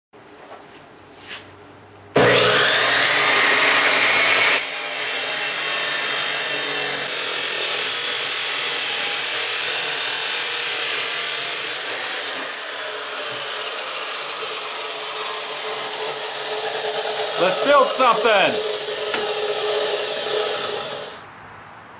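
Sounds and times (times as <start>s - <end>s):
power tool rasping: 2.2s - 21.2s.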